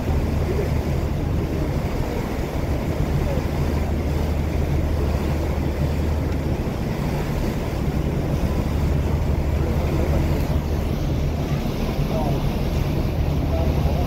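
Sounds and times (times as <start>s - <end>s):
boat engine droning: 0.0s - 14.0s
wind and water rushing: 0.0s - 14.0s.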